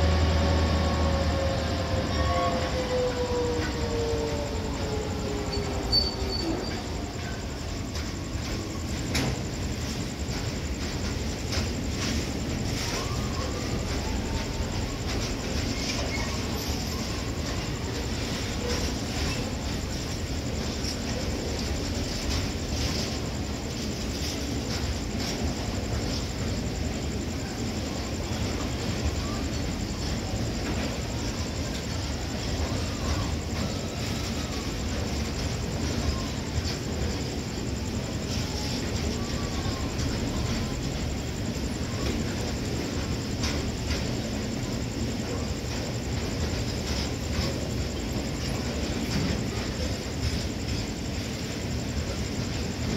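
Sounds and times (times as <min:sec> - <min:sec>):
diesel locomotive rumbling: 0:00.0 - 0:52.9.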